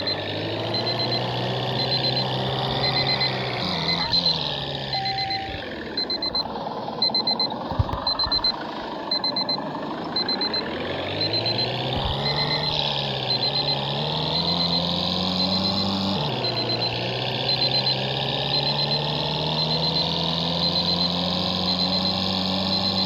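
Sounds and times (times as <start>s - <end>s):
electronic warning beeps: 0.0s - 23.0s
vehicle engine: 0.0s - 23.0s.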